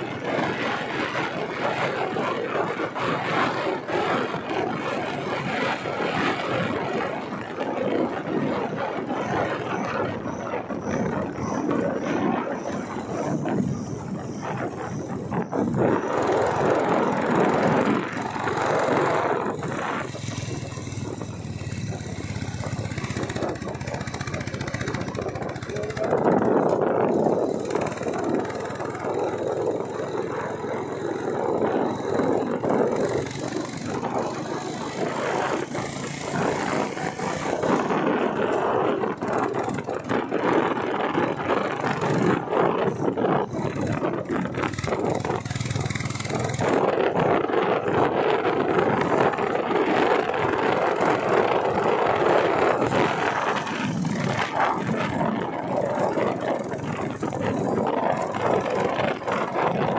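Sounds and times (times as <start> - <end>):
vehicle driving on road: 0.0 - 59.9
wind buffeting microphone: 0.0 - 59.9.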